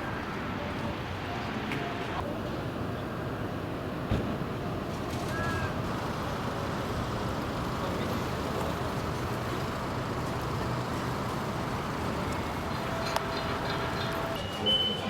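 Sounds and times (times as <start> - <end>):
vehicle rumble with hiss: 0.0 - 15.0.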